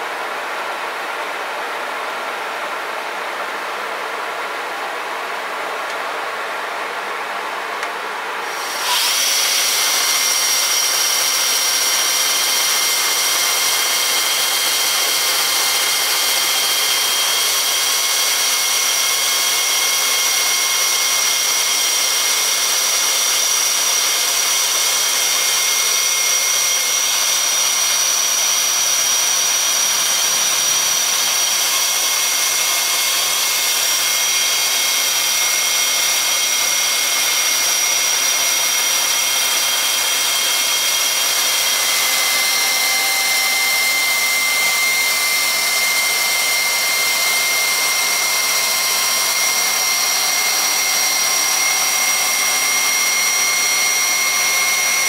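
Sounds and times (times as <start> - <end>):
chainsaw mill whining through log: 8.4 - 55.0.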